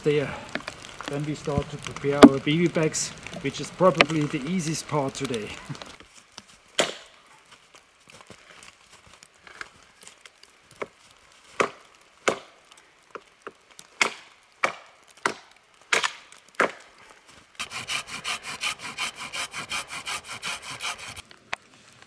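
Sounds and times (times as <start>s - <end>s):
dead wood cracking: 0.0s - 22.0s.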